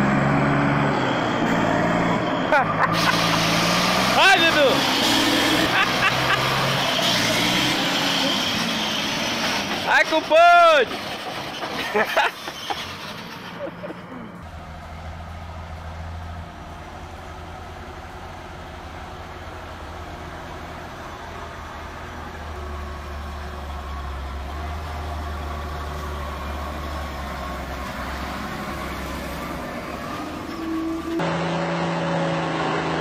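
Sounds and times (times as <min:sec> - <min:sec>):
diesel truck engine passing: 0:00.0 - 0:33.0
higher-pitched truck engine: 0:00.0 - 0:33.0.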